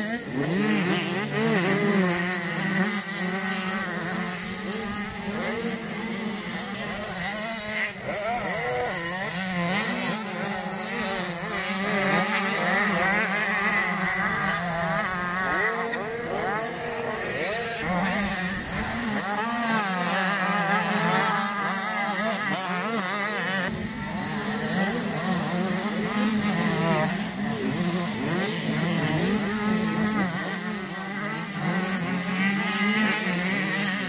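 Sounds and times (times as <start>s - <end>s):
motocross bikes revving: 0.0s - 34.0s.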